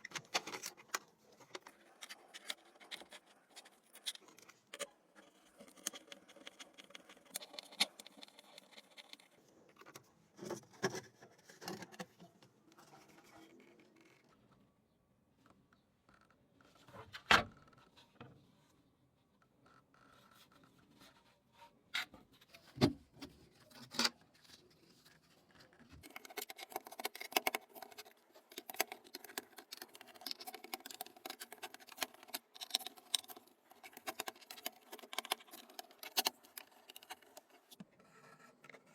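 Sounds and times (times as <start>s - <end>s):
plastic parts clicking and scraping: 0.0s - 14.3s, 21.9s - 38.9s.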